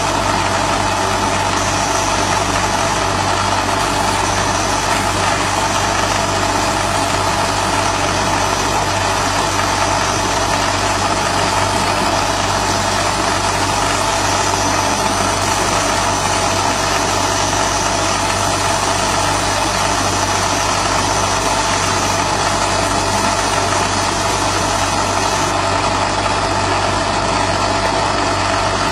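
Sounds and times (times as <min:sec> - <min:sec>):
laser machine mechanical hum: 0:00.0 - 0:28.9.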